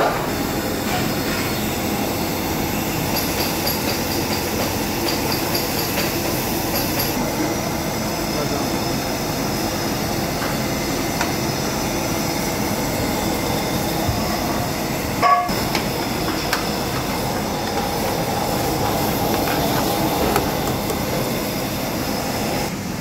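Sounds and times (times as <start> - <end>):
gas burner flame roaring: 0.0 - 23.0.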